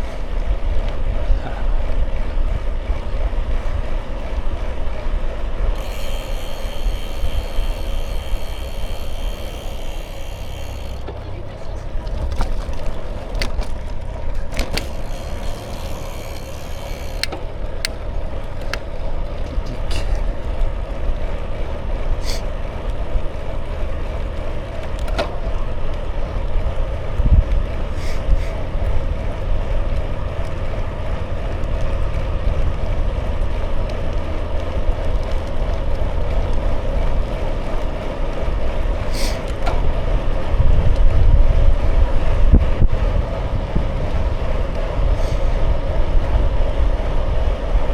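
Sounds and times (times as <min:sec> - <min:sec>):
bicycle tyres rolling: 0:00.0 - 0:47.9
bike clicks and rattles: 0:00.0 - 0:47.9
wind buffeting microphone: 0:00.0 - 0:47.9.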